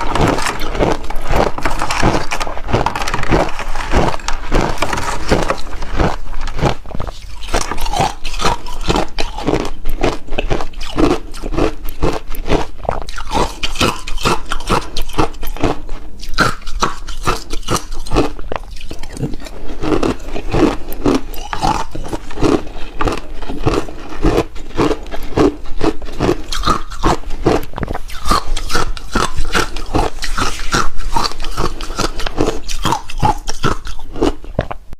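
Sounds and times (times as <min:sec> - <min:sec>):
crunching and chewing ice: 0:00.0 - 0:34.9.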